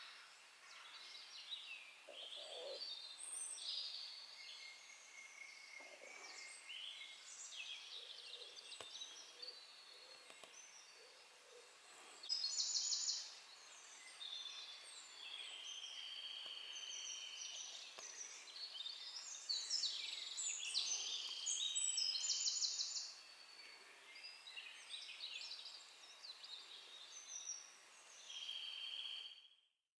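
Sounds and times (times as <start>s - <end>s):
songbirds warbling: 0.0s - 29.4s.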